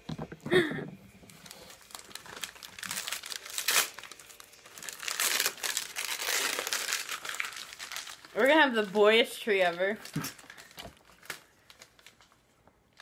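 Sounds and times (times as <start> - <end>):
paper wrapping crinkling: 1.2 - 13.0.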